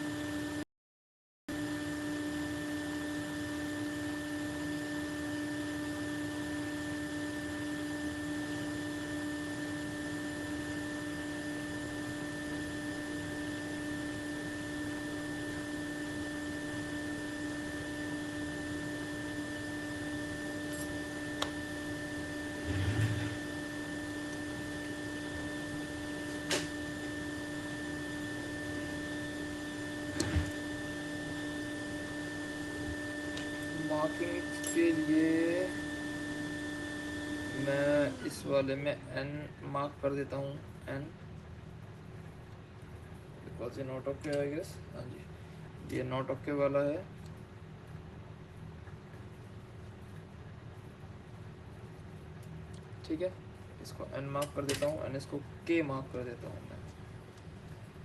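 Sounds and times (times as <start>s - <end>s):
steady electrical hum: 1.5s - 58.0s.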